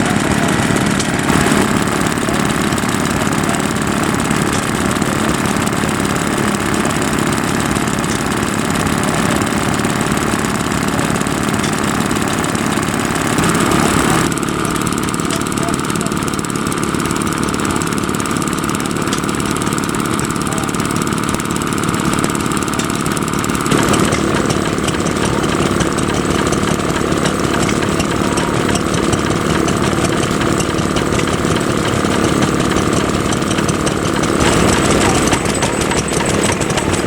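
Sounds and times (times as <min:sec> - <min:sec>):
stationary engines running: 0:00.0 - 0:37.0.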